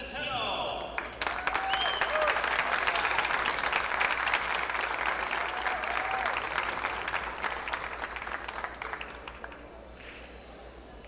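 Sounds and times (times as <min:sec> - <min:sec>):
audience applauding: 0:01.0 - 0:09.8.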